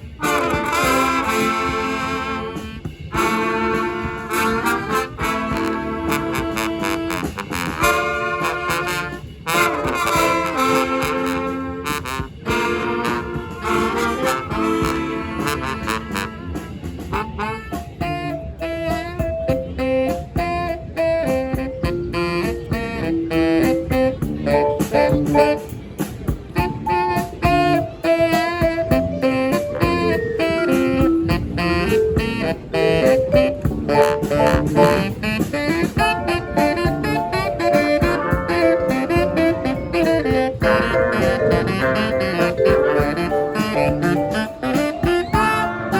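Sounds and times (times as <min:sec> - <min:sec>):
brass band playing: 0:00.0 - 0:45.9
drums: 0:00.0 - 0:45.9.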